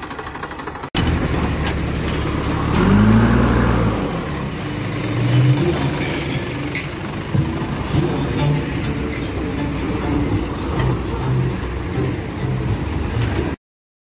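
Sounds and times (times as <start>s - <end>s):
diesel engine revving: 0.0s - 13.6s.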